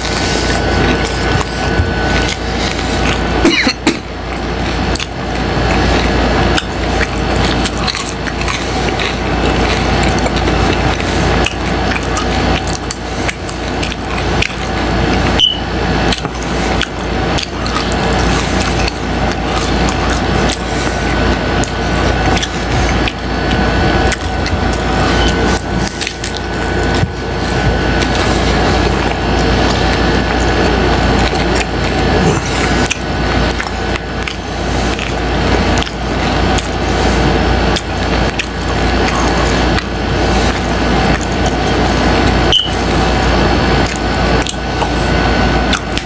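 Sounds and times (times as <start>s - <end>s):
crunchy chewing: 0.0s - 46.0s.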